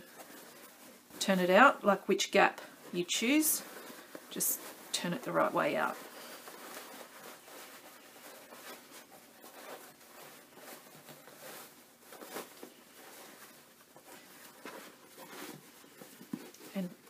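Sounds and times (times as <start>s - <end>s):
fabric rustling and scraping: 0.0s - 17.0s.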